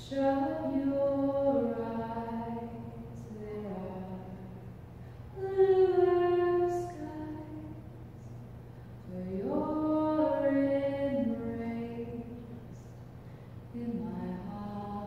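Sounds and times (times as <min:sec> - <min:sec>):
slow chant-like singing: 0:00.0 - 0:04.7, 0:05.4 - 0:08.4, 0:09.0 - 0:13.0, 0:13.7 - 0:15.0
steady low hum: 0:00.0 - 0:15.0.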